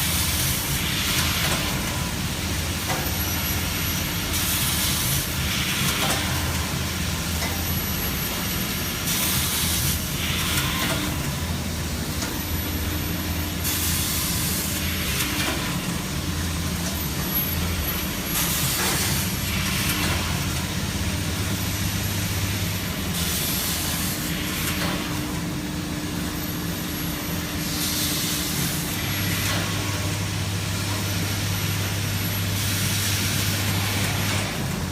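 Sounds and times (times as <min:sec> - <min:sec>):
welding machine humming: 0:00.0 - 0:34.9.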